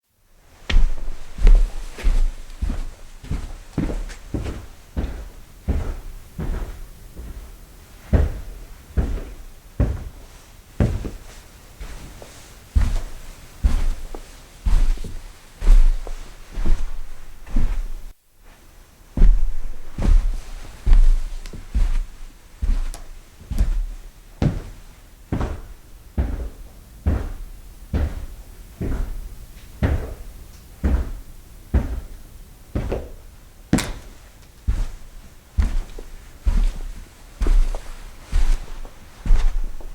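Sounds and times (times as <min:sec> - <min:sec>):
heavy footsteps on tile and carpet: 0:00.1 - 0:39.9.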